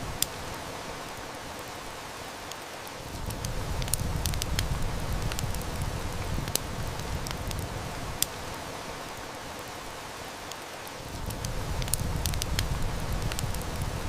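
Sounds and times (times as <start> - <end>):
rain hiss: 0.0 - 14.0
wood fire crackling: 0.0 - 14.0.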